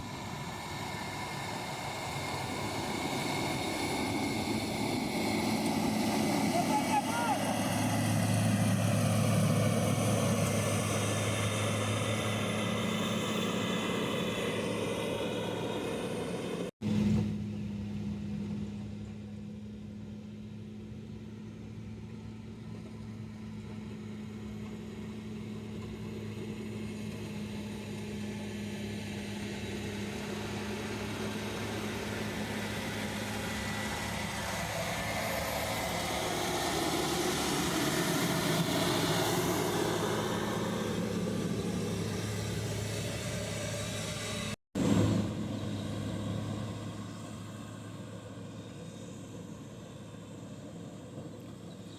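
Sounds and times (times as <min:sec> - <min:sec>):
heavy machine engine humming: 0:00.0 - 0:51.9.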